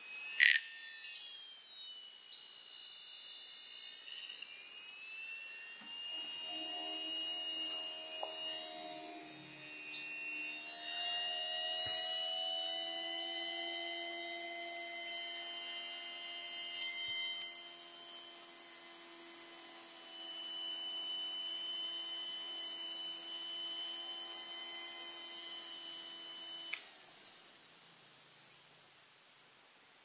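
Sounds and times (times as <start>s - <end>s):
blender motor whining: 0.0s - 27.7s.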